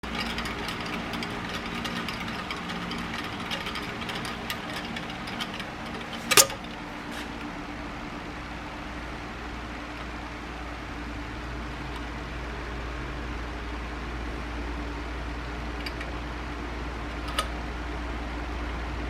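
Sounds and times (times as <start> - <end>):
small mechanism humming: 0.0 - 19.0.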